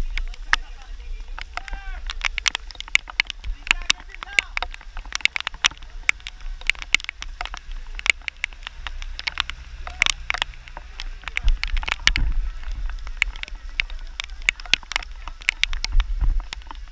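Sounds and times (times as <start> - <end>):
raindrops tapping on camera: 0.0 - 16.9
wind rumble on microphone: 0.0 - 16.9.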